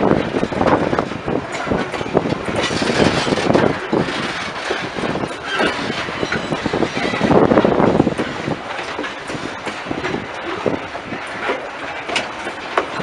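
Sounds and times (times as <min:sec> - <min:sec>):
clunks at rail joints: 0:00.0 - 0:13.0
freight train wheels rumbling: 0:00.0 - 0:13.0.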